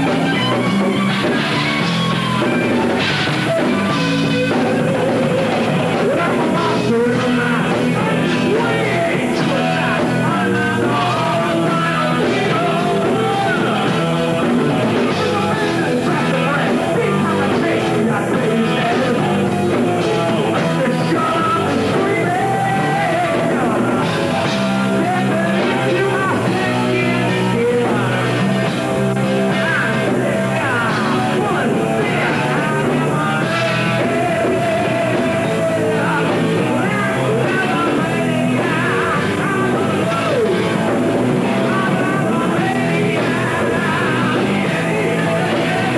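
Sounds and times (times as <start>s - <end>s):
metal band playing: 0.0s - 45.9s
person singing and shouting: 0.0s - 45.9s.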